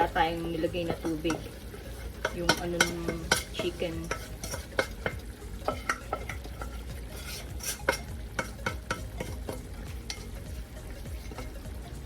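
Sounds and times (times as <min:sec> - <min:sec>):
chicken sizzling: 0:00.0 - 0:12.0
utensil scraping a pan: 0:00.8 - 0:12.0.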